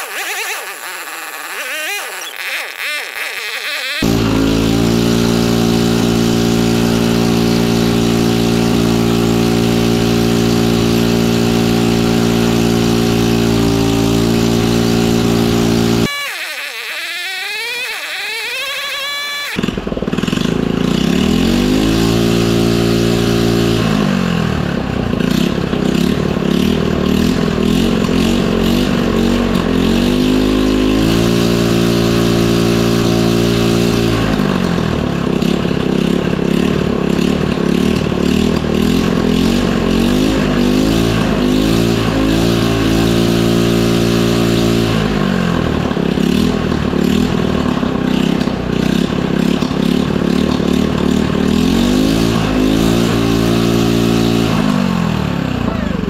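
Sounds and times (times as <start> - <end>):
mini bike engine revving: 0.0 - 56.0.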